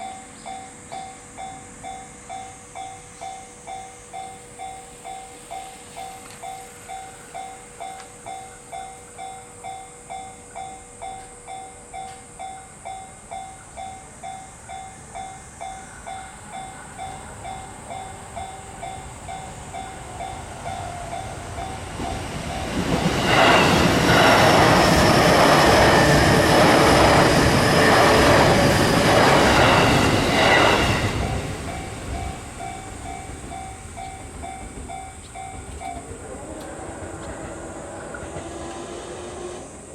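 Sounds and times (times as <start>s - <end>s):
level-crossing warning bell dinging: 0.0s - 38.6s
train wheels clattering on rails: 0.0s - 39.9s.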